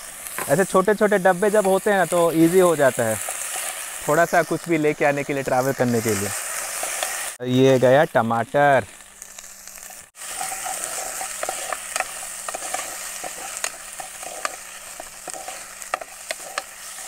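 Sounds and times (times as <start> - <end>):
tomatoes and onions sizzling: 0.0 - 17.0.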